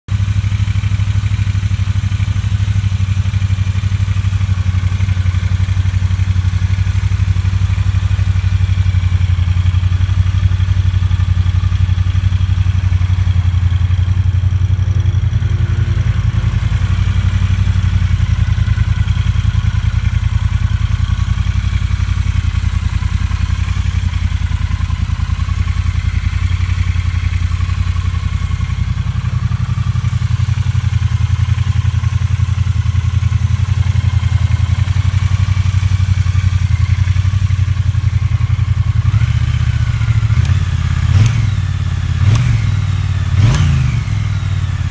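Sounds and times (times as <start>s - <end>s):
motorcycle engine idling: 0.1s - 44.9s.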